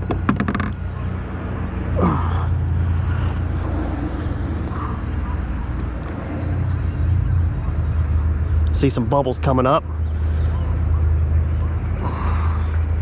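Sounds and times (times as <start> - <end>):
electric trolling motor humming: 0.0 - 13.0.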